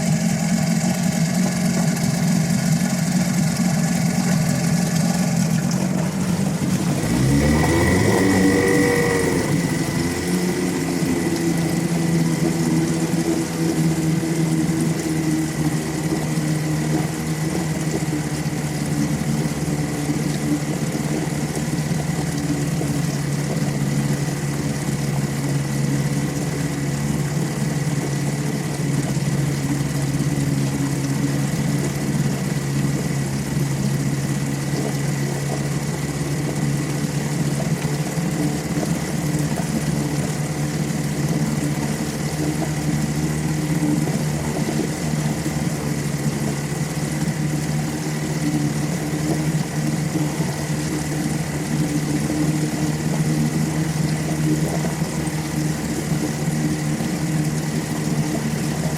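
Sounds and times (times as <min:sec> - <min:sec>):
outboard motor idling: 0:00.0 - 0:58.9.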